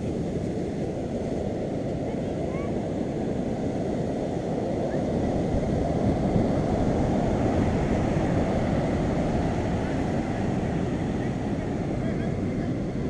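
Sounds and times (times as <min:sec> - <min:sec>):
surf: 0:00.0 - 0:13.0
wind on microphone: 0:00.0 - 0:13.0.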